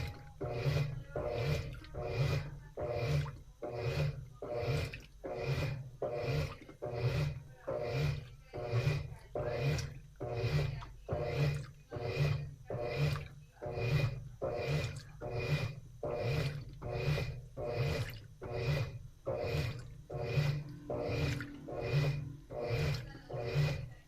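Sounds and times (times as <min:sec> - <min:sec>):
motor hum: 0:00.0 - 0:24.0
washing machine agitating: 0:00.0 - 0:24.0.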